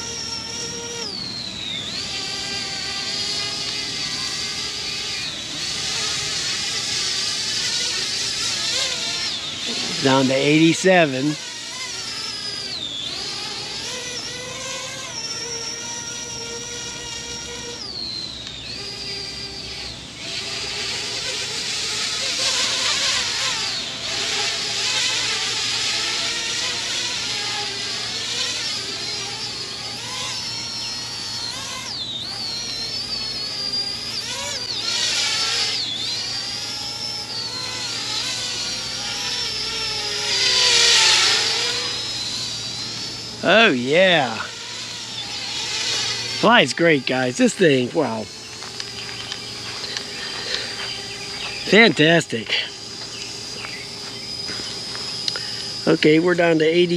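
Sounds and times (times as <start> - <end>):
drone propellers whining: 0.0 - 56.9.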